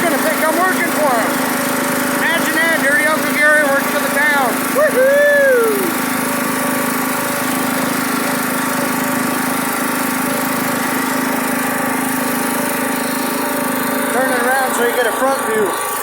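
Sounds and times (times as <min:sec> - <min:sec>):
lawn mower engine droning: 0:00.0 - 0:16.0.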